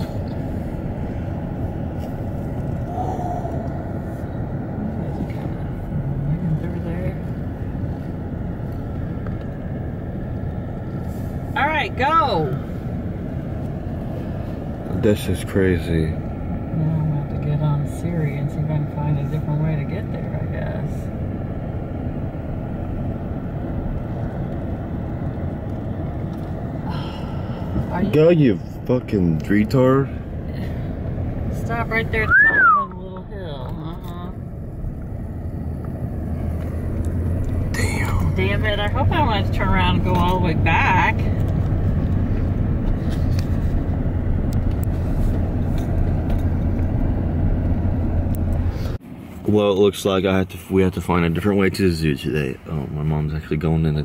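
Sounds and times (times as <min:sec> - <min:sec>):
car driving interior rumble: 0:00.0 - 0:54.0.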